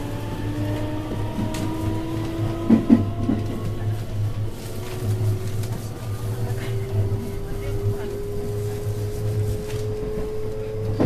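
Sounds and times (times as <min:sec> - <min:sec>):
train running hum: 0:00.0 - 0:11.0.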